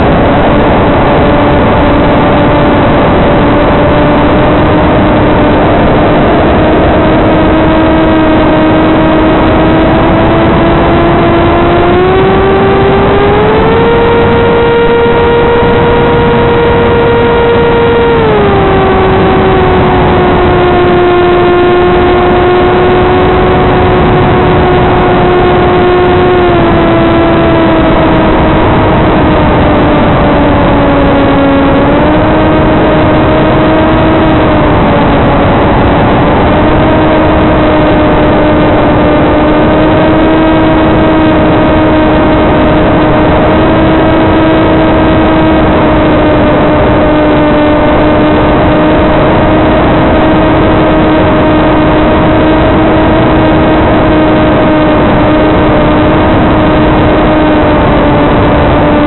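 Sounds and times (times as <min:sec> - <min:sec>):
electric motor and propeller hum: 0:00.0 - 0:59.0.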